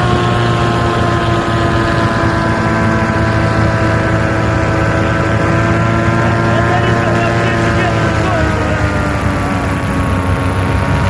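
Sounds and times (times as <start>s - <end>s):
propeller engine drone: 0.0s - 11.0s.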